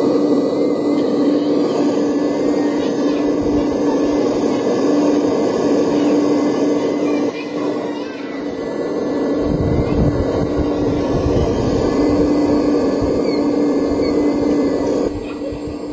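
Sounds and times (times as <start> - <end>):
toy excavator motor whirring: 0.0 - 15.9.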